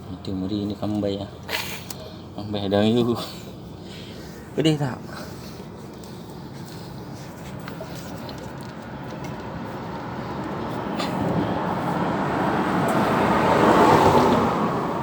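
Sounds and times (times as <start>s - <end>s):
road vehicle rumble and tyre noise: 0.0s - 15.0s.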